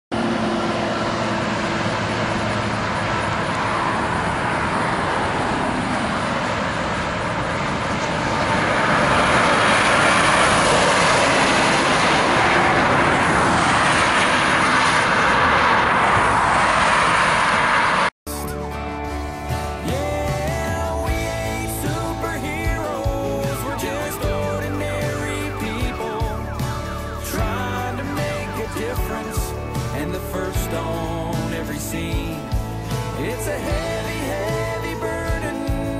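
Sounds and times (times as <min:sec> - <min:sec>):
highway traffic rushing: 0:00.1 - 0:35.9.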